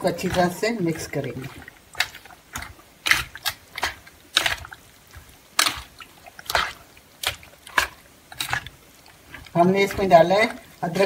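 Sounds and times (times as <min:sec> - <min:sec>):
chicken squelching in marinade: 0:00.0 - 0:11.0.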